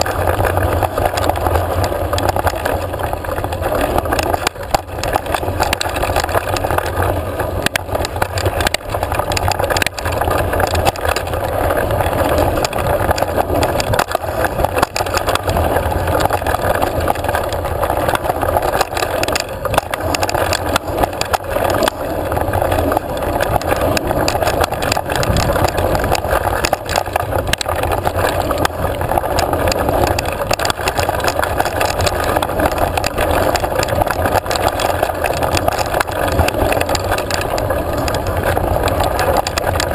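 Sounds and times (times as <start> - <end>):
bike clicks and rattles: 0.0 - 39.9
bike tyres rumbling on dirt: 0.0 - 39.9.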